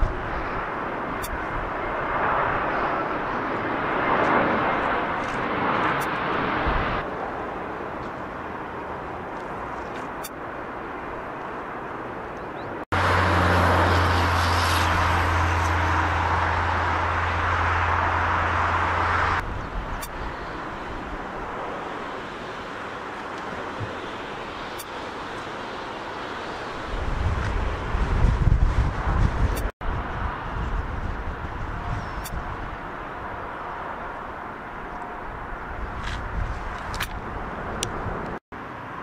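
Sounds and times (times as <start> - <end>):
jet airliner engines: 0.0 - 39.0.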